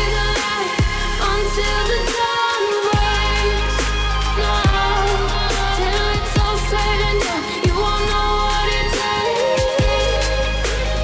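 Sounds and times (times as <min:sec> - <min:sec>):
pop-rock music with singing: 0:00.0 - 0:11.0.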